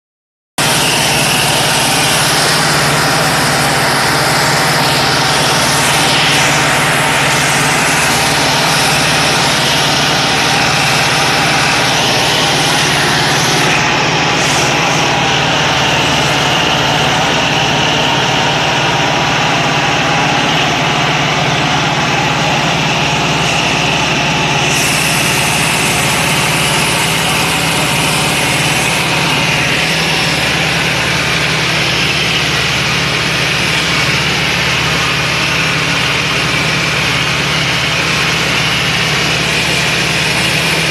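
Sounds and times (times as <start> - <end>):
propeller engine drone in cockpit: 0.6 - 40.9.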